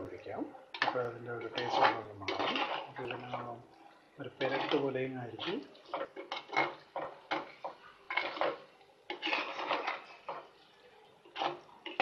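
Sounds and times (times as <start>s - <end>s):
spoon scraping clay pot: 0.8s - 3.5s, 4.4s - 10.6s, 11.2s - 12.0s.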